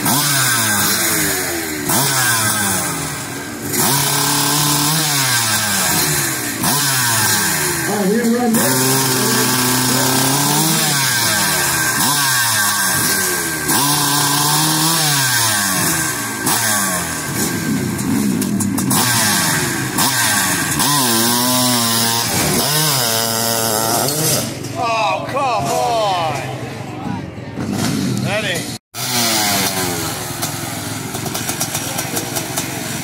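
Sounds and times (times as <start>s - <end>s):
dirt bike engine revving: 0.0s - 24.8s, 27.6s - 33.0s.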